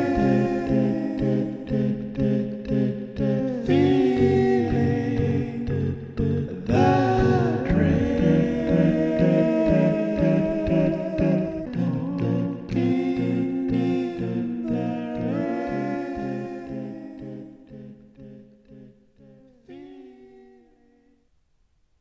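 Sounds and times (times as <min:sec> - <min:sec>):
evenly pulsing low vocal part: 0:00.0 - 0:19.9
layered a cappella vocal harmonies: 0:00.0 - 0:21.2.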